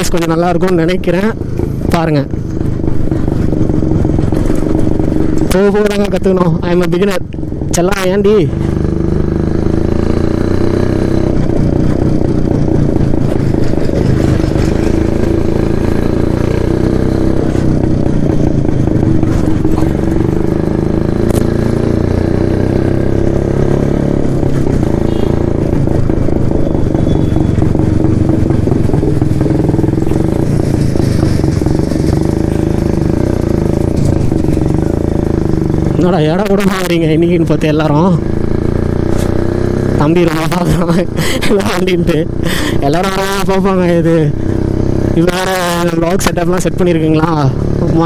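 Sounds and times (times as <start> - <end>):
two-stroke motorcycle running: 0.0 - 48.0.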